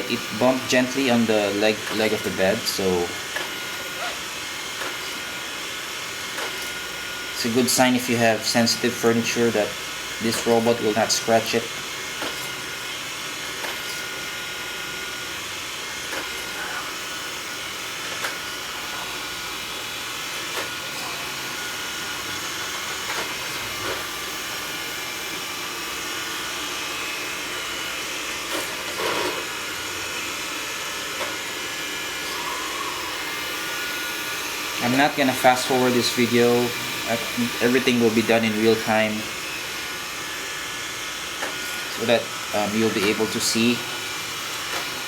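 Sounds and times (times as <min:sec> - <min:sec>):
robot vacuum running: 0:00.0 - 0:45.0.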